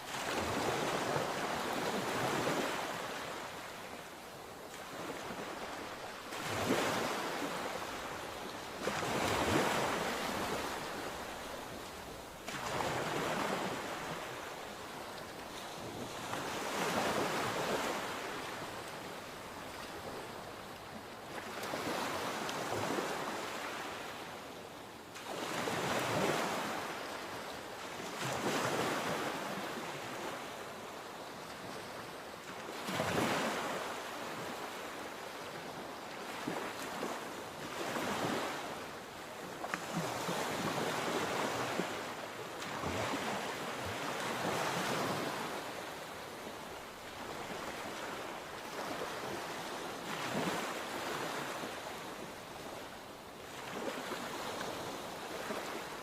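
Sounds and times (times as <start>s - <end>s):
sea waves breaking: 0.0s - 24.3s, 31.3s - 56.0s.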